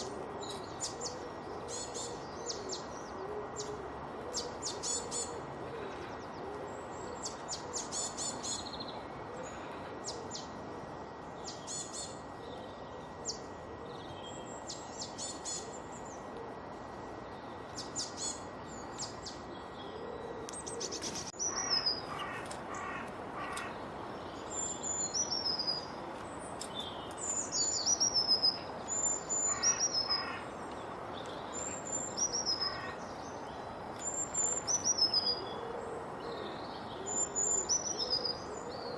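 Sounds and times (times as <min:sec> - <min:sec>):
birds chirping and singing: 0:00.0 - 0:10.6, 0:17.2 - 0:38.9
steady background hiss: 0:00.0 - 0:38.9.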